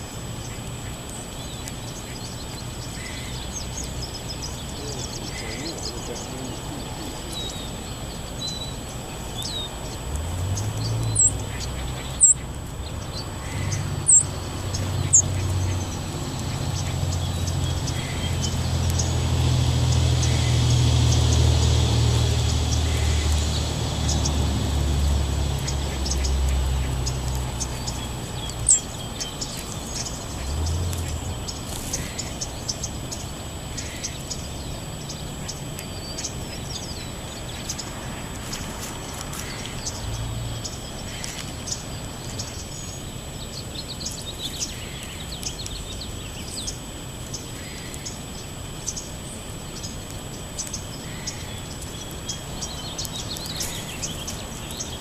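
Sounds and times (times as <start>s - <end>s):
small songbirds chirping: 0.0s - 55.0s.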